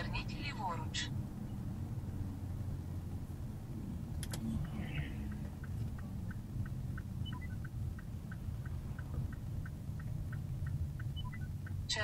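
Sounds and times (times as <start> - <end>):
engine and tyre rumble: 0.0 - 12.0
turn signal ticking: 0.0 - 12.0.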